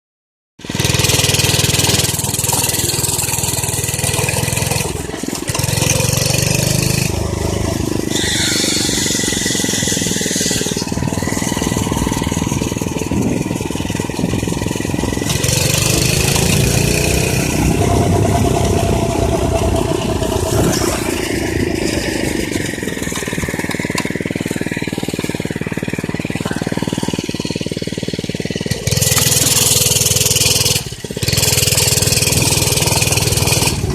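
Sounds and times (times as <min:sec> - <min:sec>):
minibike engine running: 0:00.6 - 0:33.9.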